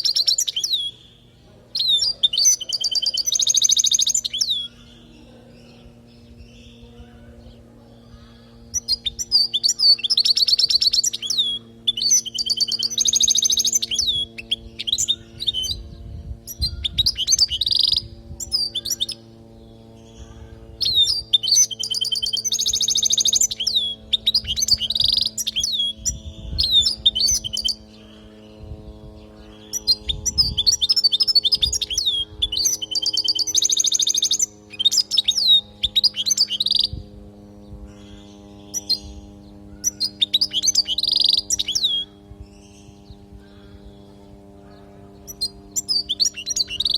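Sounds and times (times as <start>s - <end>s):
bird twittering song: 0.0s - 46.9s
faint low hum: 0.0s - 46.9s.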